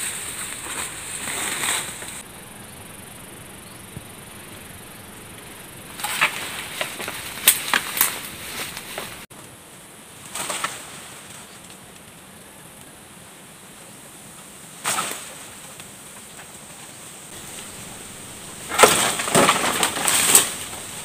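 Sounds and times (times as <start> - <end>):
dry leaves rustling and crackling: 0.0 - 12.3, 14.8 - 21.0.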